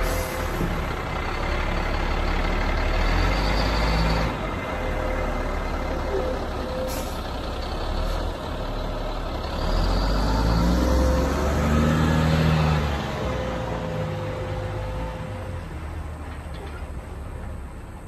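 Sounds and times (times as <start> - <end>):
diesel truck engine accelerating: 0.0 - 18.0.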